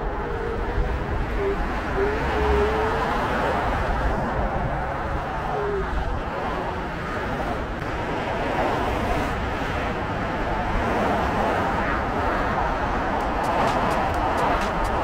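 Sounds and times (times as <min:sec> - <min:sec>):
road and traffic noise: 0:00.0 - 0:15.0
wind rushing over microphone: 0:00.0 - 0:15.0.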